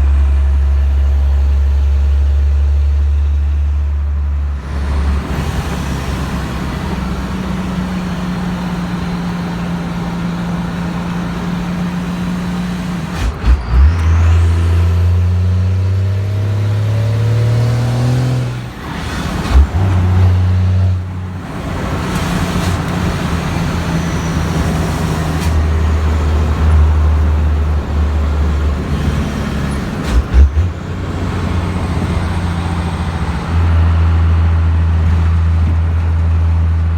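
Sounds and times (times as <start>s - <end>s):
diesel engine accelerating: 0.0s - 36.9s.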